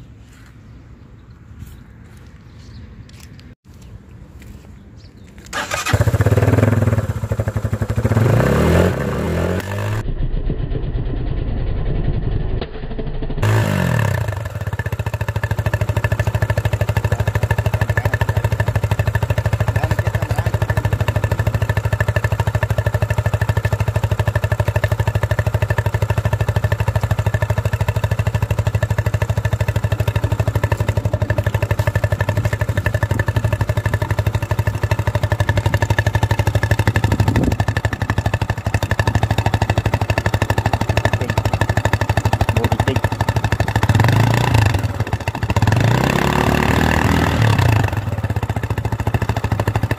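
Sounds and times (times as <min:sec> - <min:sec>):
motorcycle engine idling: 0:05.6 - 0:09.2, 0:12.9 - 0:49.9.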